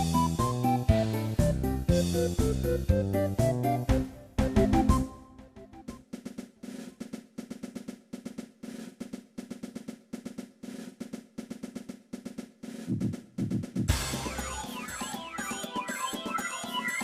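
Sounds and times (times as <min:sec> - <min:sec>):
snare drum pattern: 0:00.0 - 0:17.0.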